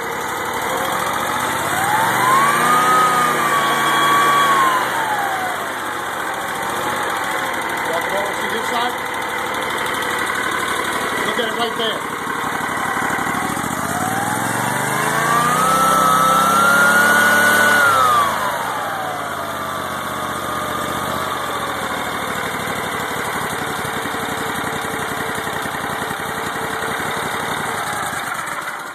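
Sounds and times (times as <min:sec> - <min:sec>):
small engine revving and idling: 0:00.0 - 0:28.9.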